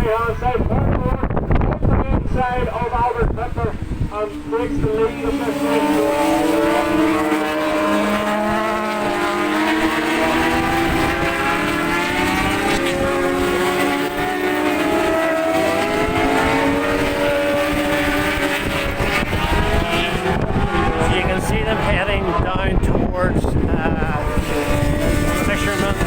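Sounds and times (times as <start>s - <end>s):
racing motorcycle engines: 0.0s - 26.0s.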